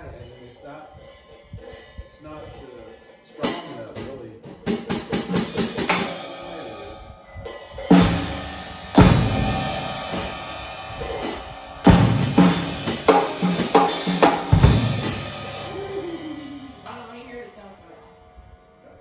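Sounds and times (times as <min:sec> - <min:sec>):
cymbal hits: 0:00.0 - 0:18.6
drum kit playing: 0:01.0 - 0:18.0.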